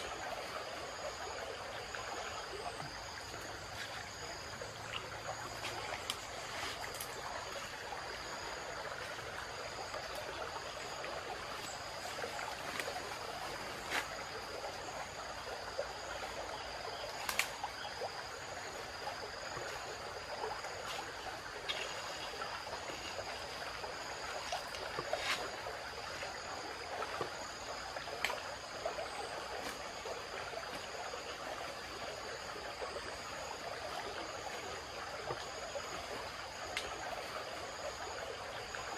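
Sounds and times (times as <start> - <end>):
insects calling: 0.0 - 38.9
stream flowing: 0.0 - 38.9.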